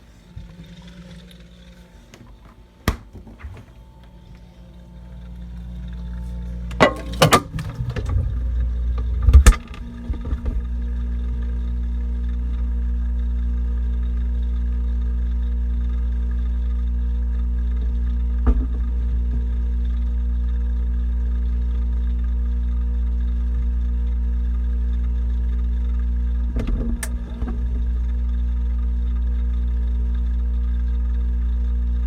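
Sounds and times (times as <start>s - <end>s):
fridge humming: 0.0s - 21.8s, 24.7s - 32.0s.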